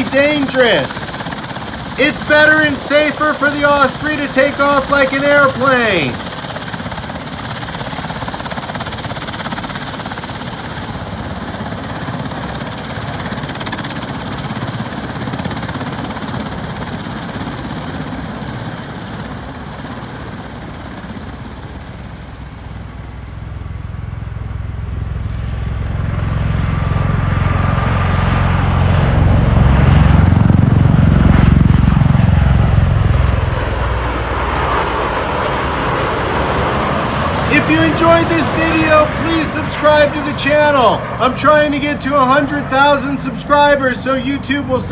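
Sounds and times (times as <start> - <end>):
tiltrotor aircraft engines running: 0.0 - 44.9.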